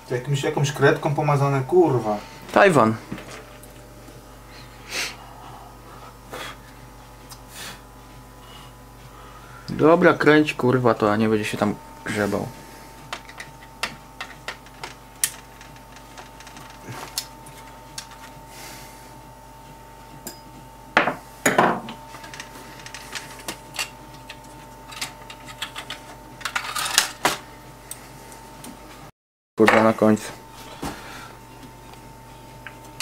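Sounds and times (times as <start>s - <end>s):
faint steady whine: 0.0s - 29.0s.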